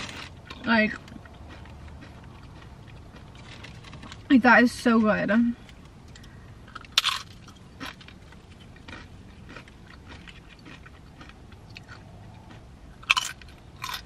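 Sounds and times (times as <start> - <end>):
chips crunching: 0.0 - 4.3, 6.7 - 14.0.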